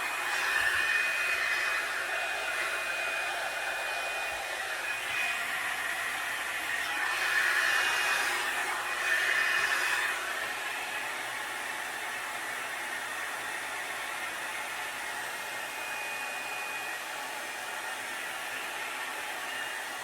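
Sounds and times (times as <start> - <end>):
hot-air dryer brush running: 0.0 - 20.0.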